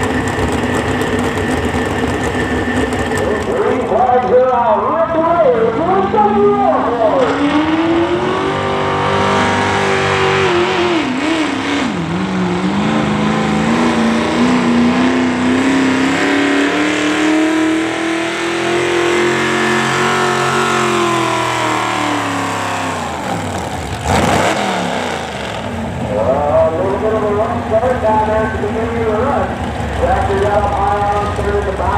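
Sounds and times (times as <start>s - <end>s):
pulling vehicle engine at full throttle: 0.0s - 31.9s.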